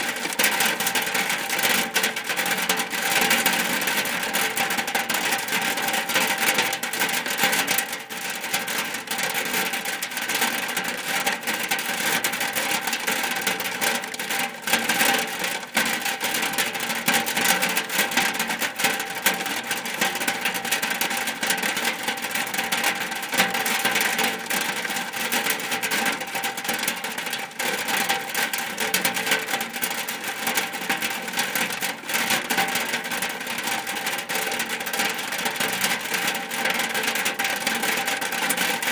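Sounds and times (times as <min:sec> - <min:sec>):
rain on a roof: 0:00.0 - 0:38.9.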